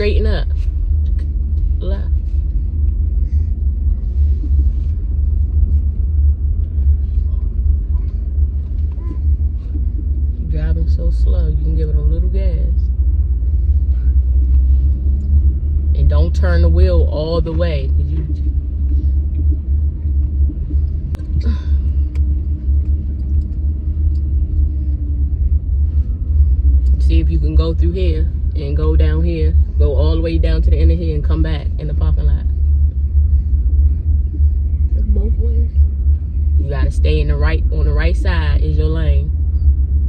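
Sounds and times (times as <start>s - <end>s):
car engine and road noise: 0.0s - 40.0s
faint steady hum: 0.0s - 40.0s.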